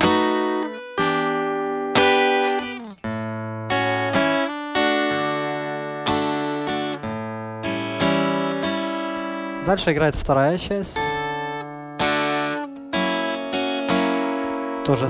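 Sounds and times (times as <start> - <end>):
acoustic guitar played slowly: 0.0 - 15.0.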